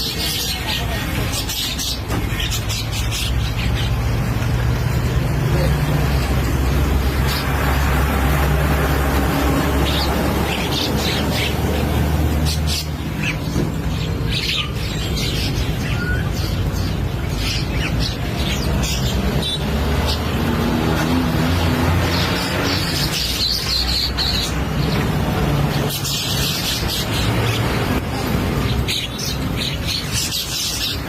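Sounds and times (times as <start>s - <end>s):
mynas chirping and squawking: 0.0s - 31.0s.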